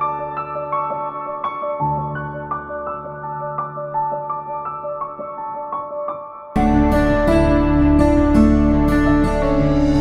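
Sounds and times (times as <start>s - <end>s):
soft slow piano music: 0.0s - 10.0s.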